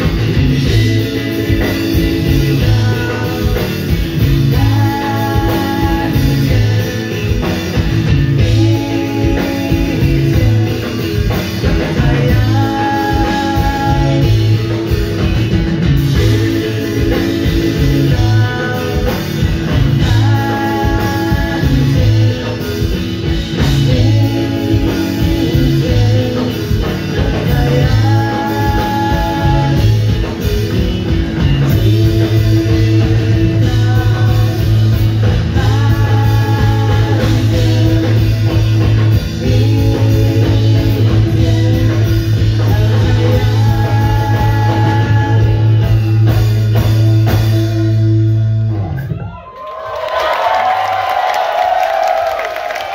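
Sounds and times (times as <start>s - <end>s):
electric bass line: 0.0s - 49.3s
drum kit: 0.0s - 52.9s
electric guitar: 0.0s - 52.9s.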